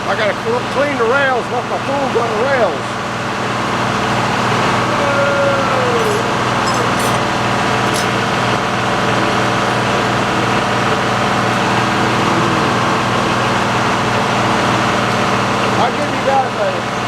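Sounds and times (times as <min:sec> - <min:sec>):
sawmill power unit running: 0:00.0 - 0:17.0.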